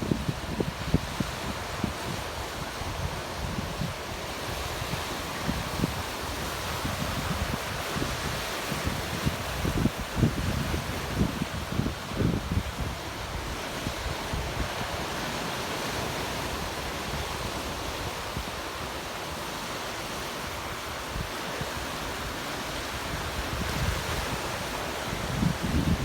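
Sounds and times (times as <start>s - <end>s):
wind buffeting the microphone: 0.0s - 19.1s, 20.5s - 26.0s
ocean surf washing: 0.0s - 26.0s.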